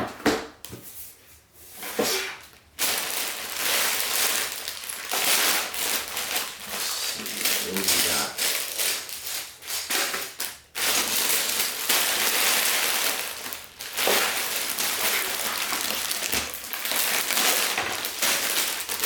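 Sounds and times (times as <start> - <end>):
plastic bag crinkling: 2.8 - 19.0.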